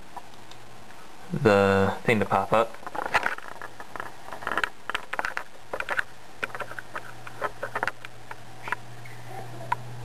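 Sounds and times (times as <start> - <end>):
spinning disc hum: 0.0 - 10.0.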